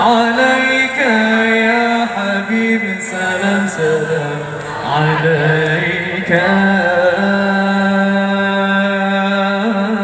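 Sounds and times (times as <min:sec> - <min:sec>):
man singing through sound system: 0:00.0 - 0:10.0.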